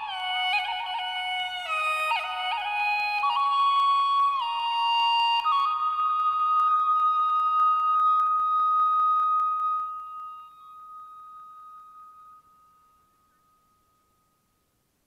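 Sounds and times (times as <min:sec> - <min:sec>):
held flute-like note: 0:00.0 - 0:14.6.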